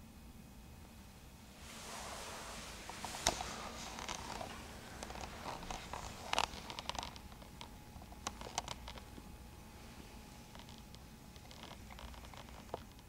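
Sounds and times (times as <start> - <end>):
low steady hum: 0.0 - 13.0
rustling: 1.6 - 13.0.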